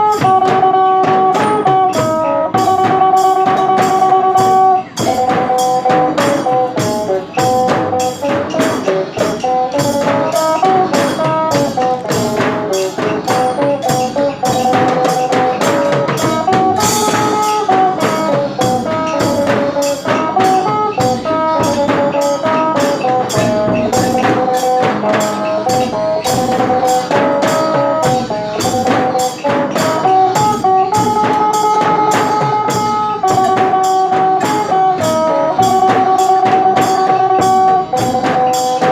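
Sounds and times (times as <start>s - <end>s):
fast percussion beat: 0.0s - 38.9s.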